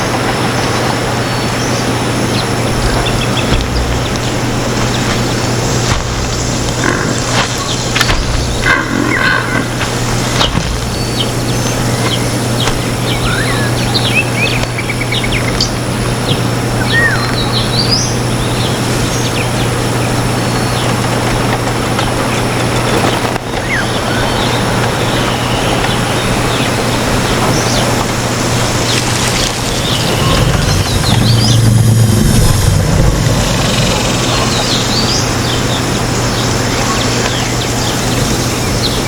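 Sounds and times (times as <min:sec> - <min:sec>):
steady rushing noise: 0:00.0 - 0:14.4, 0:18.4 - 0:39.0
constant low hum: 0:00.0 - 0:39.0
small birds chirping: 0:00.0 - 0:39.0.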